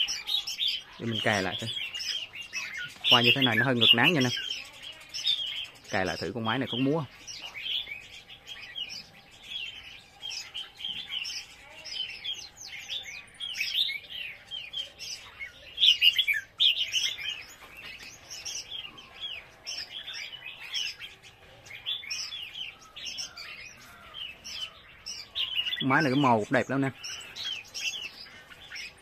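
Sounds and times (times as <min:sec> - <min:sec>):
birds chirping and singing: 0:00.0 - 0:29.0.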